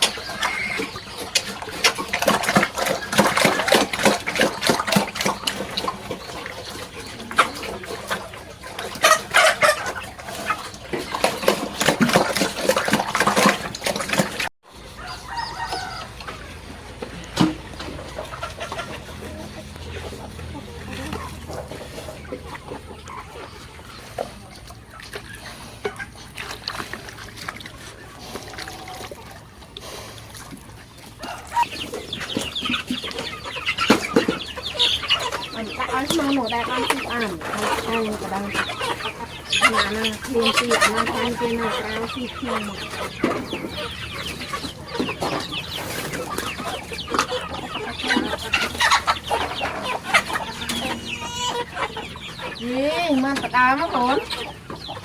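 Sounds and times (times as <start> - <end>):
chickens clucking: 0.0 - 55.0
farm animal noises: 0.0 - 55.0.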